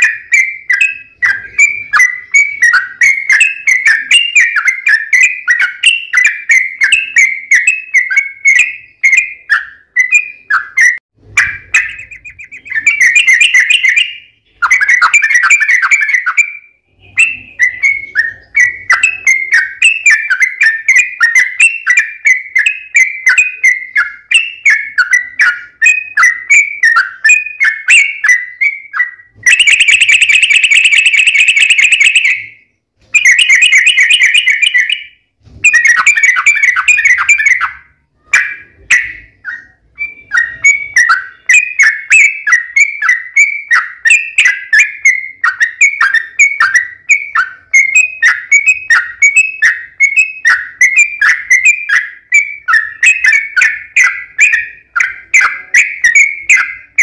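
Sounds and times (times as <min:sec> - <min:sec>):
bird singing trills and chatter: 0:00.0 - 0:57.0.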